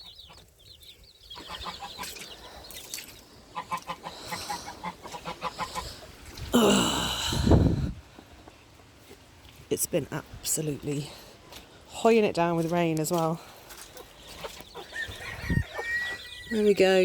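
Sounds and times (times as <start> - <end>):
chickens clucking: 0.0 - 6.5, 7.9 - 11.8, 12.4 - 17.0.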